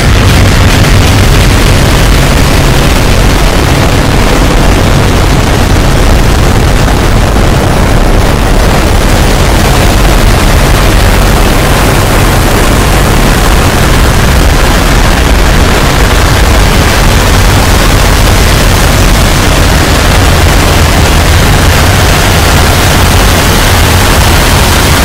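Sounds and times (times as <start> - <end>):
bass rumble: 0.0 - 25.0
heavily distorted noise: 0.0 - 25.0.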